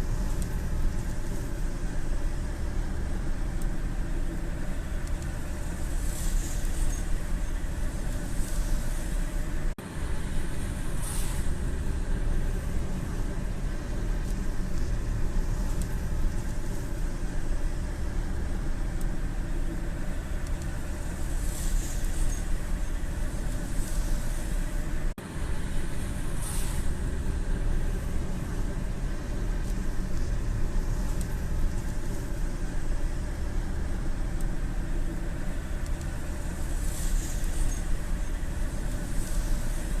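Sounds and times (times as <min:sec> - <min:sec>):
rain on car windshield: 0:00.0 - 0:40.0
road and engine rumble: 0:00.0 - 0:40.0.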